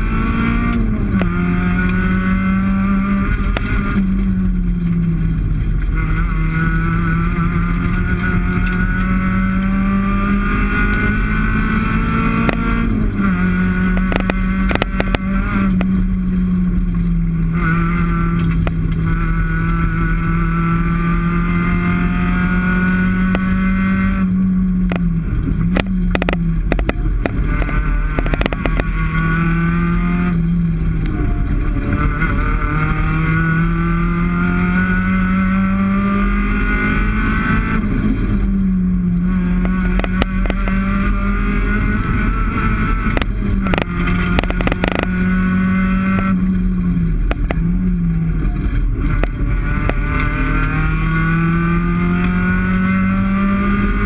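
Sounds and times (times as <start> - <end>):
rally car engine at high revs: 0.0 - 54.0
sharp clicks and knocks: 0.5 - 9.8, 10.6 - 20.6, 23.0 - 34.2, 36.3 - 54.0.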